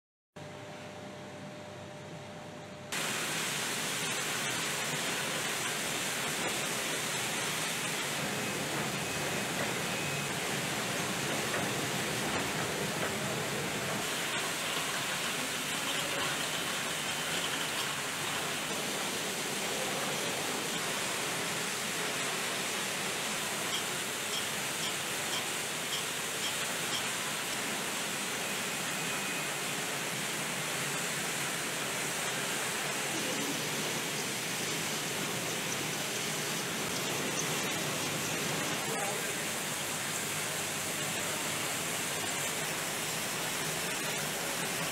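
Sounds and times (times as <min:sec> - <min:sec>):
machines hissing and whirring: 0:02.9 - 0:44.9.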